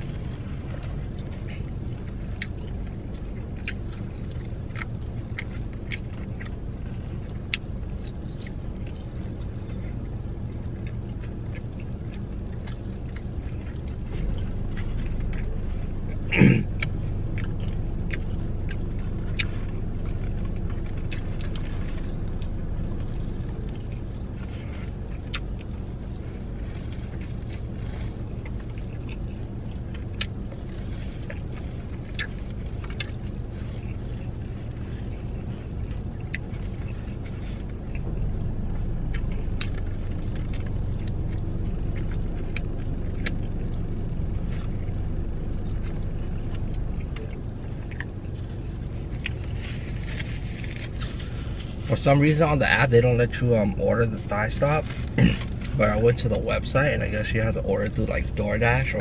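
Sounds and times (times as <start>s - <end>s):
low hum inside car: 0.0s - 59.0s
person chewing: 0.0s - 59.0s.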